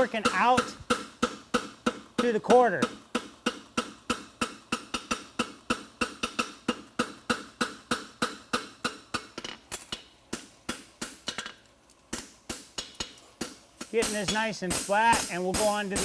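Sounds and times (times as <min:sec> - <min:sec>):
hammer striking horseshoe on anvil: 0:00.0 - 0:16.0.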